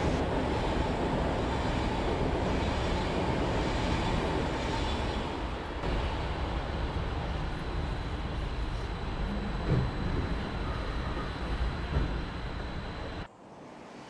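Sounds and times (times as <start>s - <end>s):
high-speed train rushing past: 0.0s - 14.0s.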